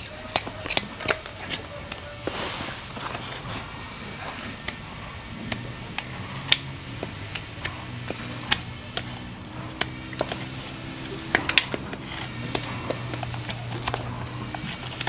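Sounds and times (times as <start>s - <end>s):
clicks and snaps on hoof: 0.0s - 2.0s, 4.0s - 15.0s
steady low hum: 0.0s - 15.0s.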